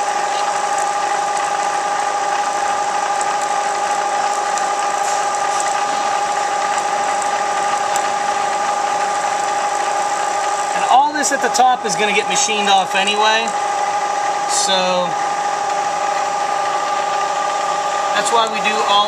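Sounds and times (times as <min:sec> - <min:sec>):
milling machine whining: 0:00.0 - 0:19.0.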